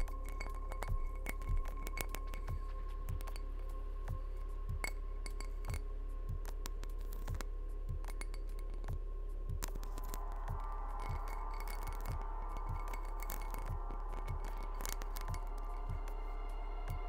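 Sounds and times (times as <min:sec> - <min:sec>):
glassy clinks and taps: 0:00.0 - 0:05.8, 0:06.5 - 0:09.0, 0:09.6 - 0:16.3
soft low thumps: 0:00.0 - 0:16.3
low electronic drone: 0:00.0 - 0:17.0.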